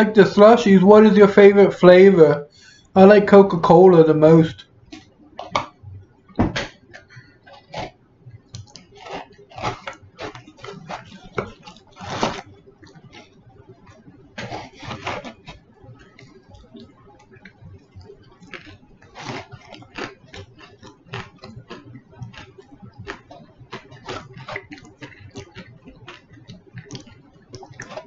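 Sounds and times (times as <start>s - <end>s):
person chewing with wet smacking: 4.8s - 28.0s.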